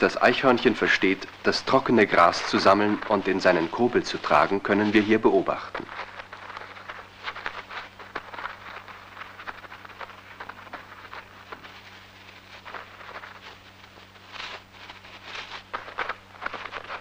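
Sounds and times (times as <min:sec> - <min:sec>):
dry grass rustling and crackling: 0:00.0 - 0:17.0
steady low hum: 0:00.0 - 0:17.0.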